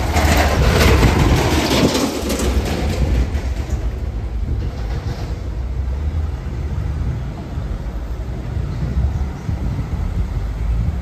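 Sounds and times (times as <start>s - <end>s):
thunderstorm rumble: 0.0s - 11.0s.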